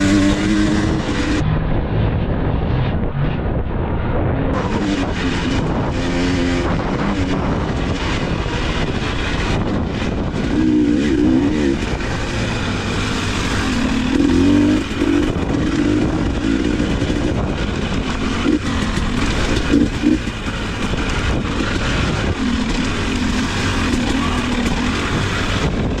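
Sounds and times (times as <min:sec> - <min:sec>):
dirt bike engine revving: 0:00.0 - 0:01.6, 0:04.5 - 0:26.0
wind and riding noise: 0:00.0 - 0:26.0.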